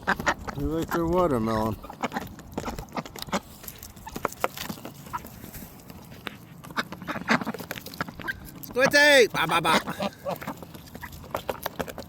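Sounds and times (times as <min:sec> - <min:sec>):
birds pecking at fruit: 0:00.0 - 0:12.0.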